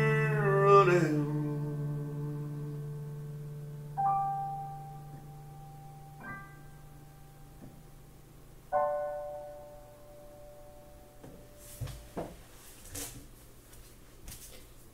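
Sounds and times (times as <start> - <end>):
piano chord ringing: 0.0 - 12.2.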